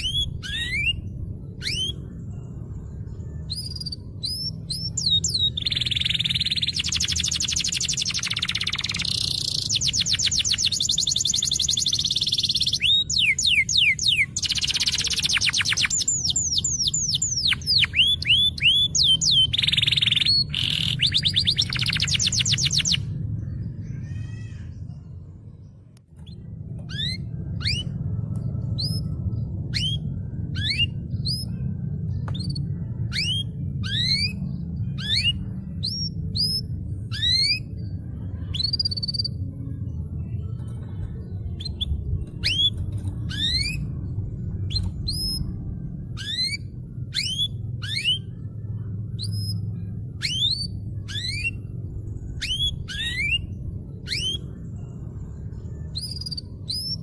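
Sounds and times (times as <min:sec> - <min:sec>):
canary singing: 0:00.0 - 0:25.0, 0:26.2 - 0:39.5, 0:40.7 - 0:57.0
low hum: 0:00.0 - 0:57.0.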